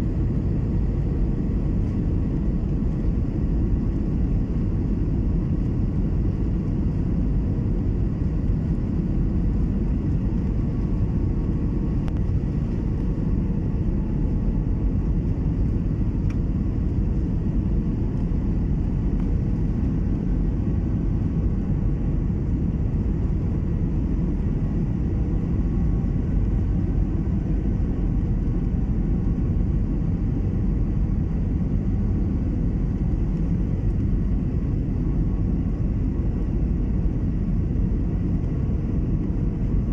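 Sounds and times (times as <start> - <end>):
airliner engines in cabin: 0.0 - 39.9.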